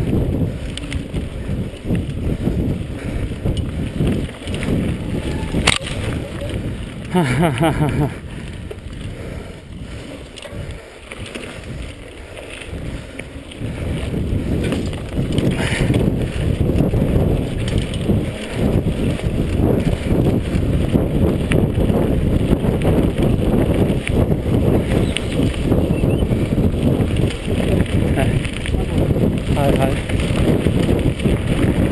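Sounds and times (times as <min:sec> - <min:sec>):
bike rattling over dirt trail: 0:00.0 - 0:31.9
wind buffeting microphone: 0:00.0 - 0:31.9.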